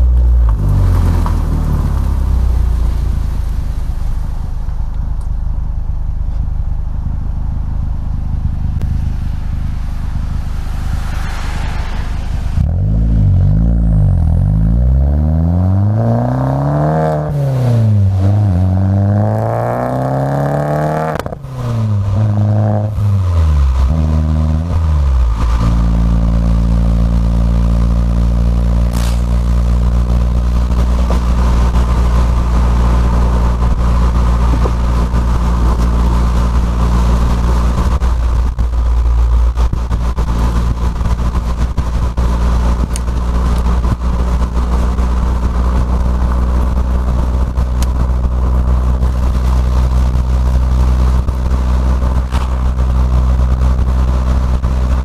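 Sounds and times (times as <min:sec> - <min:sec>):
car engine accelerating through gears: 0:00.0 - 0:05.3, 0:06.3 - 0:55.0.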